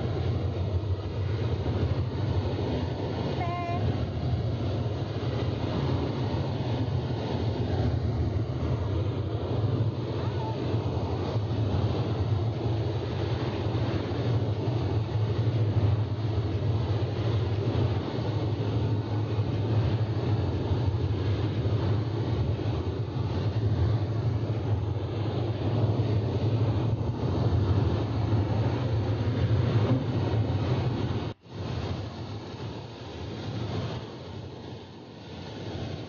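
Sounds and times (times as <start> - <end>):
ship engines and wake rumbling: 0.0 - 36.0
wind buffeting microphone: 0.0 - 36.0.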